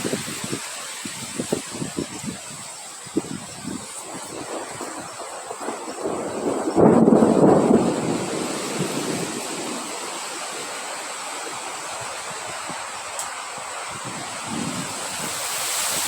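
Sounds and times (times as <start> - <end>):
loud wind gust: 0.0 - 16.0
wind blowing: 0.0 - 16.0.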